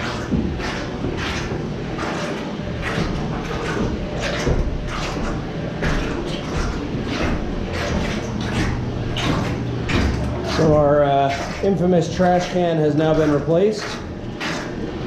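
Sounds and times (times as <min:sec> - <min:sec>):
footsteps on wooden stairs: 0:00.0 - 0:14.9
low machine hum: 0:00.0 - 0:15.0.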